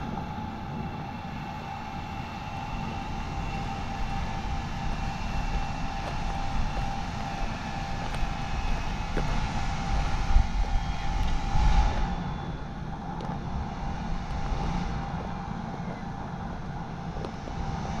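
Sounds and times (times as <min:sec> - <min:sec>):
tractor engine running under load: 0:00.0 - 0:17.5.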